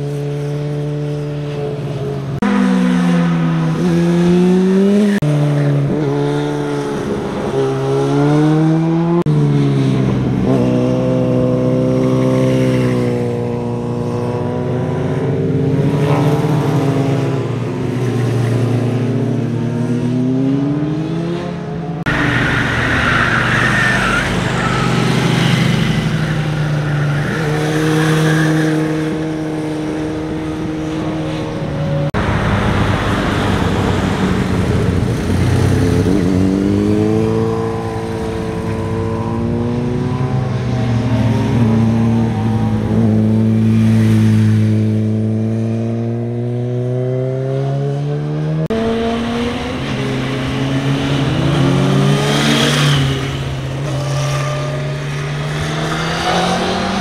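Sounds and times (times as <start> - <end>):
motorcycle engines passing: 0.0 - 57.0.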